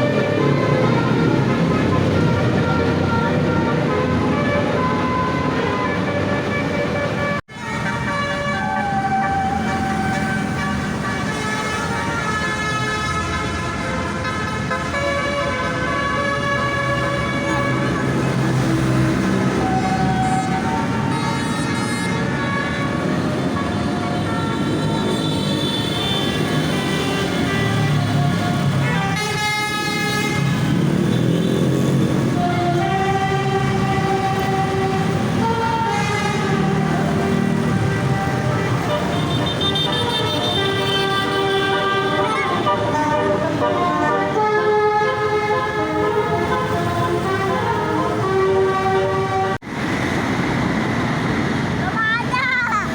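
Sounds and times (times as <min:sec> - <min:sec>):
vehicle noise: 0:00.0 - 0:52.9
bus air horn playing a tune: 0:01.1 - 0:18.3, 0:19.6 - 0:30.8, 0:32.2 - 0:49.6.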